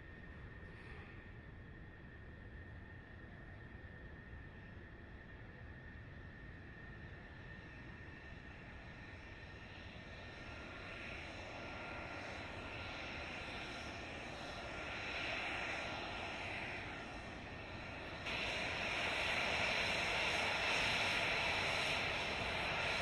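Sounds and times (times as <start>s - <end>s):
jet engine rushing with faint whine: 0.0s - 23.0s.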